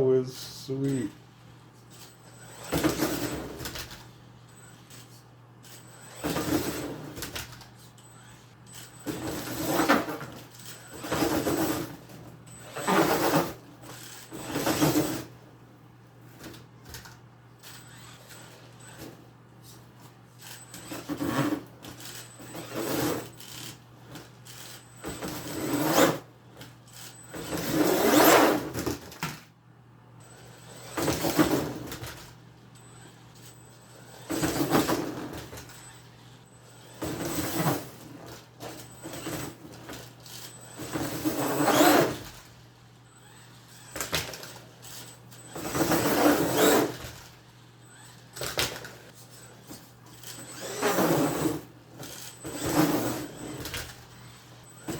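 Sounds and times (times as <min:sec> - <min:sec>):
rc truck motor and tyre surges: 0:01.9 - 0:15.4, 0:17.6 - 0:19.1, 0:20.4 - 0:26.3, 0:30.3 - 0:54.9.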